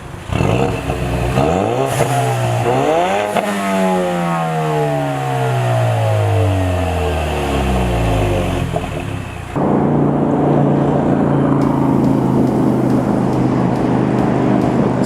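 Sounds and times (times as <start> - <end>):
car engine revving: 0.0 - 15.0
exhaust crack: 0.0 - 15.0.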